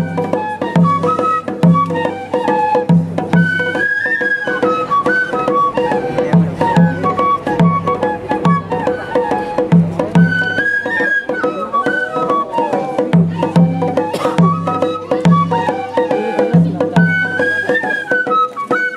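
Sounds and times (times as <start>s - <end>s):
low drum strokes: 0.0s - 18.8s
bamboo flutes melody: 0.0s - 18.9s.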